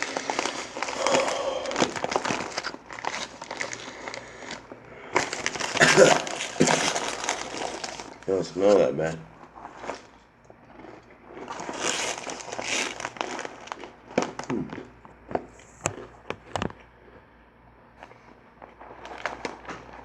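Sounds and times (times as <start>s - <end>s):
snack bag crinkling: 0.0s - 16.8s, 18.0s - 20.0s.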